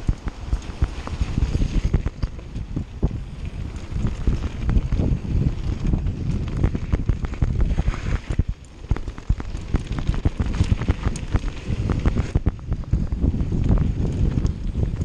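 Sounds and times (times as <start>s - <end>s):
bike clicks and rattles: 0.0s - 15.0s
bike tyres rumbling on gravel: 0.0s - 15.0s
wind buffeting microphone: 0.0s - 15.0s.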